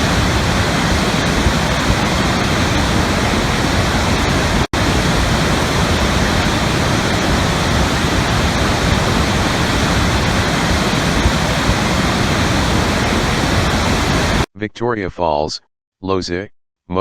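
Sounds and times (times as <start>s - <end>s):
waterfall roaring: 0.0s - 14.5s.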